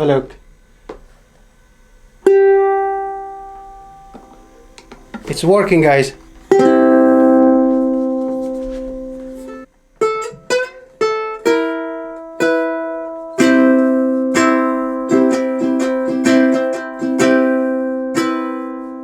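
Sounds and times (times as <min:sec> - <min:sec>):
amplified ukulele strumming: 0:02.2 - 0:05.5, 0:06.2 - 0:19.0.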